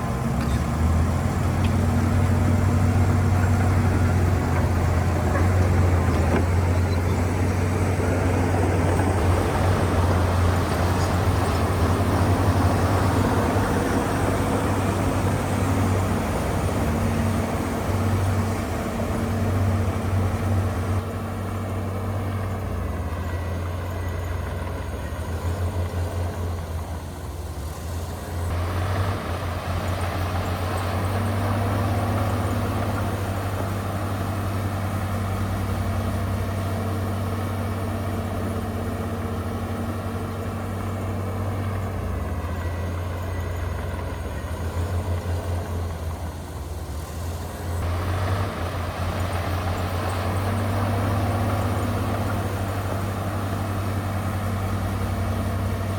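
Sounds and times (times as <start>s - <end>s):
heavy machine diesel engine: 0.0s - 55.9s.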